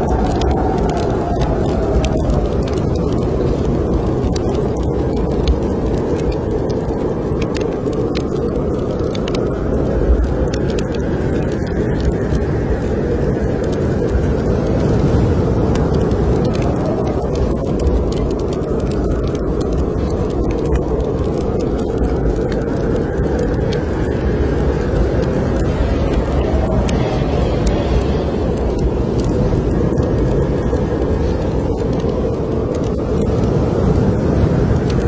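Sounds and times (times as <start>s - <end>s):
wind blowing: 0.0s - 35.0s
wood fire crackling: 0.0s - 35.0s.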